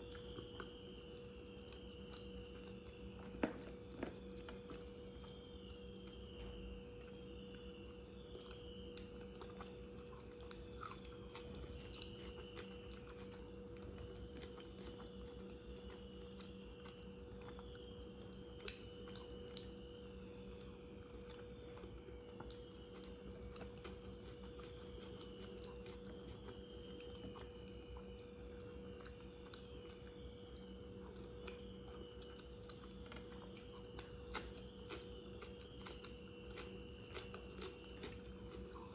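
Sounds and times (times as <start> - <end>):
low hum: 0.0 - 38.9
person chewing food: 0.0 - 38.9.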